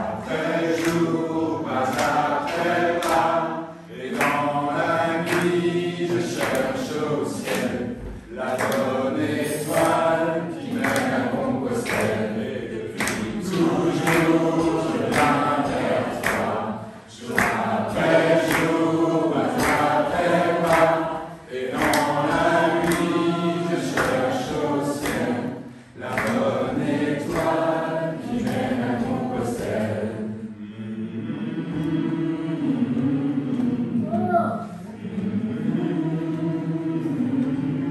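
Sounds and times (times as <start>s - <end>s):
vocal group singing a cappella: 0.0s - 37.9s.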